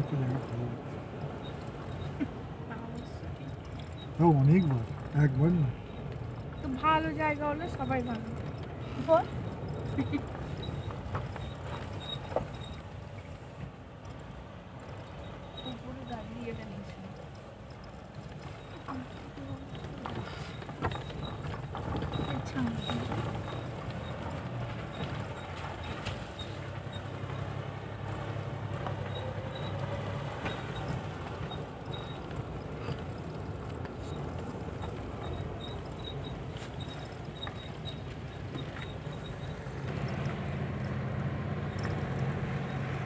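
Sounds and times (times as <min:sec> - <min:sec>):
road noise: 0:00.0 - 0:43.0
vehicle engine running: 0:00.0 - 0:43.0.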